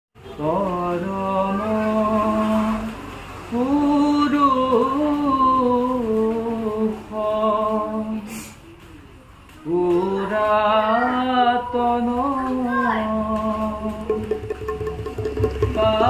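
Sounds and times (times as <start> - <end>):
person singing long held notes: 0.3 - 8.3, 9.6 - 14.3, 15.7 - 16.0.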